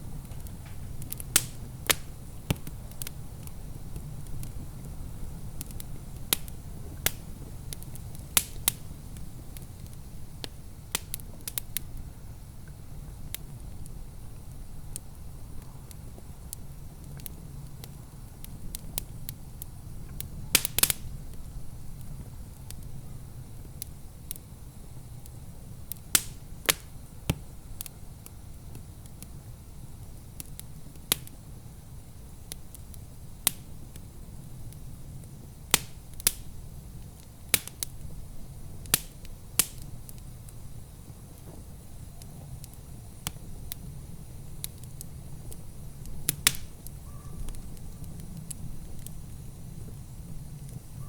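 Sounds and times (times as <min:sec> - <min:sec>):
sharp pops of fire: 0:00.0 - 0:51.0
wood fire crackling: 0:00.0 - 0:51.0.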